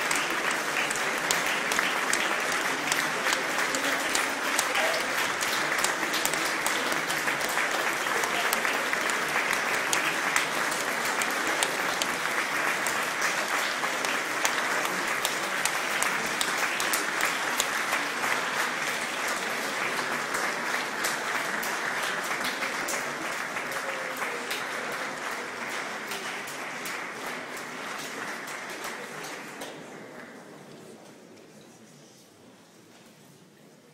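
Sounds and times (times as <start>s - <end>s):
audience applauding: 0.0s - 30.5s.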